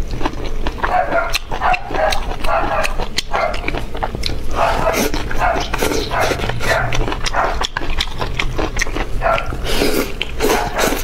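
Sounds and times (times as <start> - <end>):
wet chewing and lip smacking: 0.0 - 11.0.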